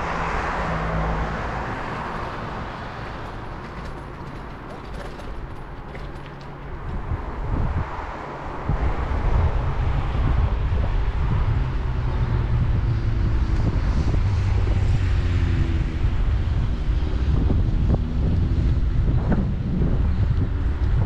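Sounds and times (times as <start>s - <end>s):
wind buffeting microphone: 1.5s - 21.0s.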